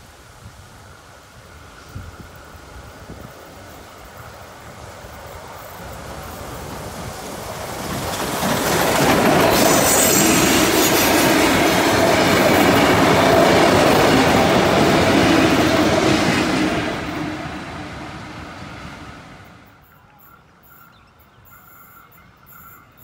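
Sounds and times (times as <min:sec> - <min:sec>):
steam train passing: 0:00.0 - 0:23.0.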